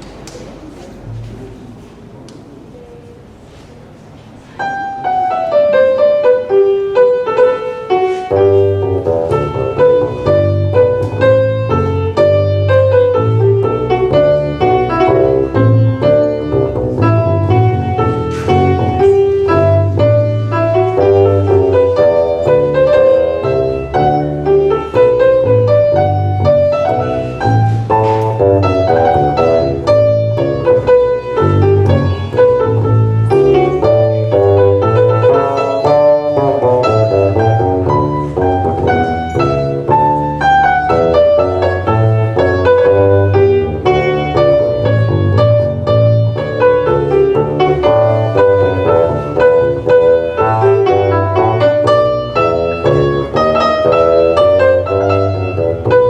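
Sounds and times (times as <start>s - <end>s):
piano runs: 0.0s - 56.0s.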